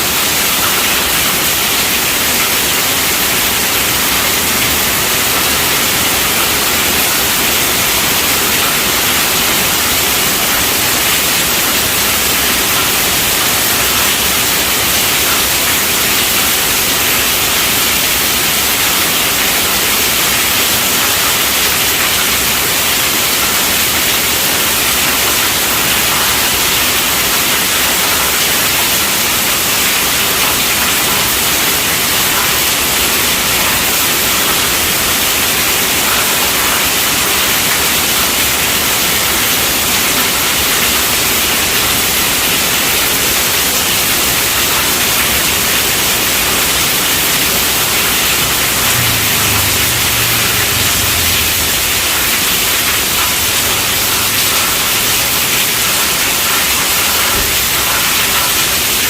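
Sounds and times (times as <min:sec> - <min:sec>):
heavy rain on a tent roof: 0:00.0 - 0:59.0.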